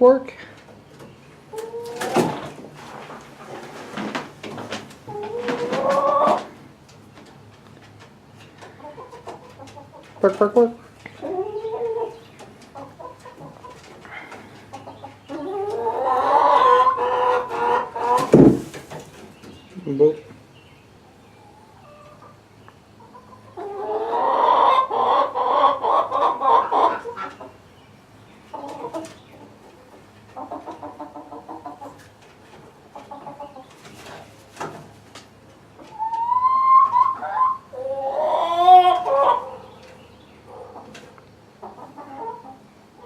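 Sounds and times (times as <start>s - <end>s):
chickens clucking: 0.0s - 43.0s
drawn-out chicken calls: 0.1s - 43.0s.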